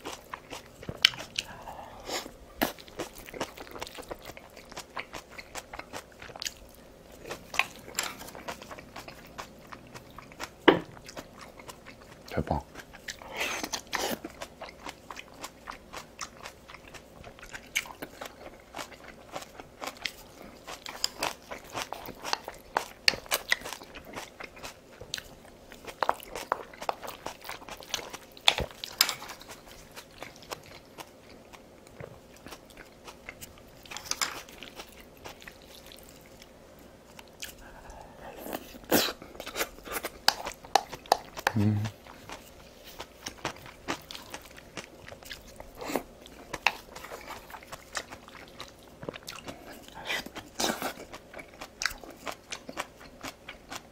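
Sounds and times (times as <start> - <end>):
person chewing crunchy food: 0.0 - 53.9.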